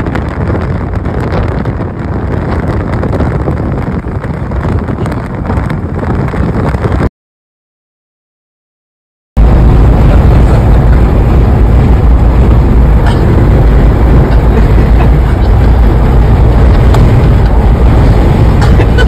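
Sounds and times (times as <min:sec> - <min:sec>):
loud steady rumbling: 0:00.0 - 0:07.1, 0:09.4 - 0:19.0
wind buffeting microphone: 0:00.0 - 0:07.1, 0:09.4 - 0:19.0.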